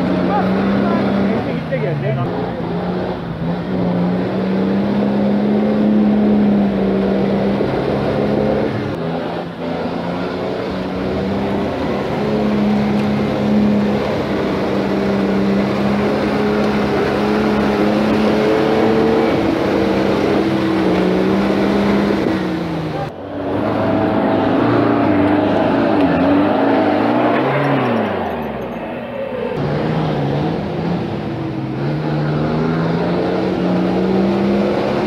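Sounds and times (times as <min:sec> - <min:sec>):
engine running hard: 0:00.0 - 0:35.0.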